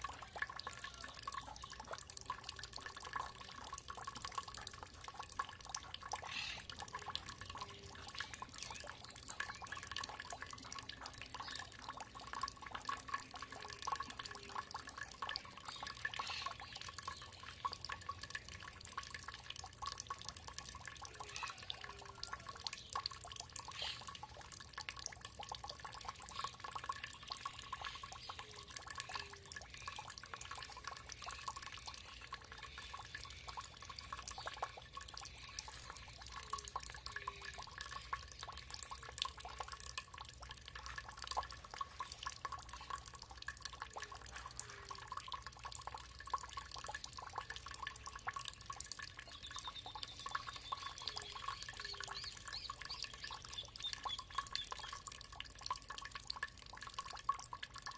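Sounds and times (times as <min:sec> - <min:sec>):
water trickling and dripping: 0:00.0 - 0:57.9.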